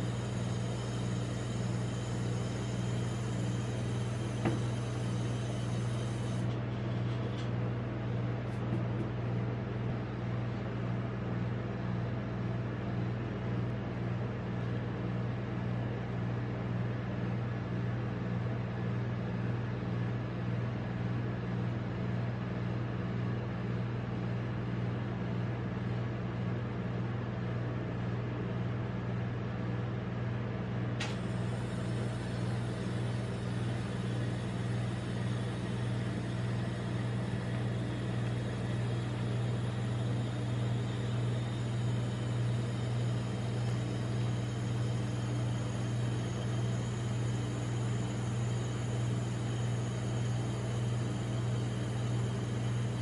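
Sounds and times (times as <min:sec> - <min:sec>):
refrigeration unit humming: 0:00.0 - 0:53.0.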